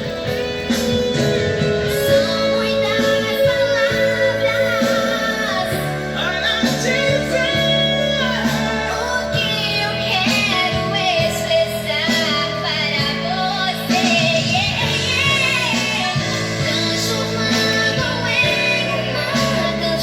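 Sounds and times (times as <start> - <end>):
musical accompaniment: 0.0 - 20.0
person singing: 0.0 - 20.0.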